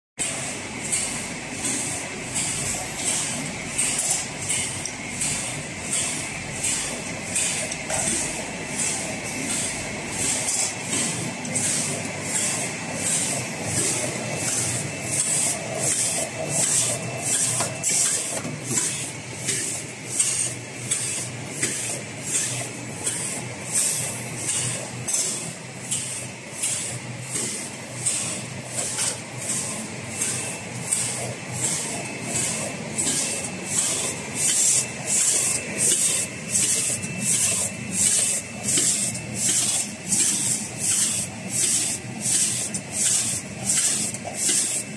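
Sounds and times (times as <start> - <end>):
machine high whine: 0.2 - 44.9
printing machine regular stroke: 0.2 - 44.9.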